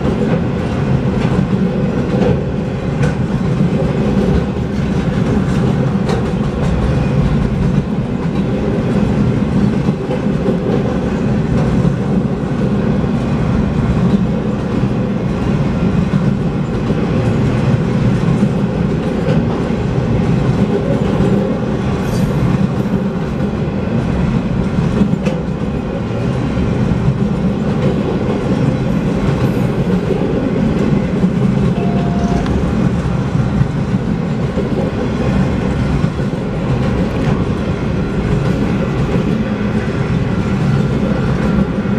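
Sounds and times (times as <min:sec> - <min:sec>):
freight cars rolling on rails: 0:00.0 - 0:41.9.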